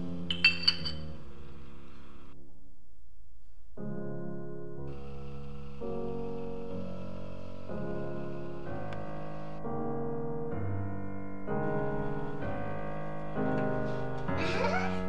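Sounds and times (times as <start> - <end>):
slow piano chords: 0.0 - 2.7, 3.7 - 15.0.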